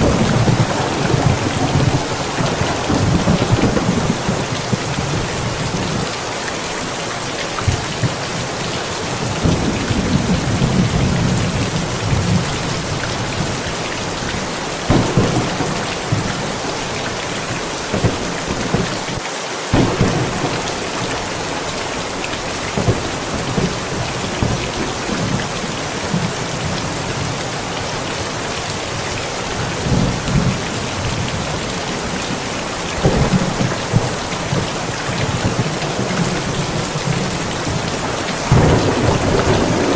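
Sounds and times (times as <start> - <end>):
thunder rumbling: 0.0 - 6.2, 6.8 - 39.9
heavy rain falling: 0.0 - 39.9.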